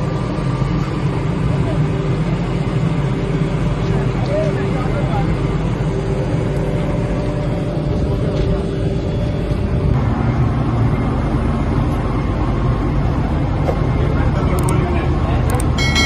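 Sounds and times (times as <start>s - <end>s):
electric locomotive humming: 0.0s - 16.0s.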